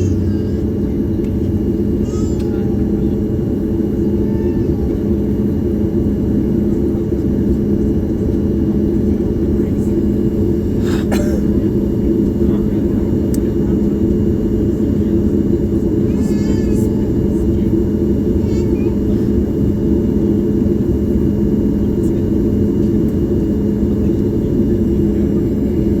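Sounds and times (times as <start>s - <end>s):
airplane cabin rumble: 0.0s - 26.0s
faint voices: 0.0s - 26.0s.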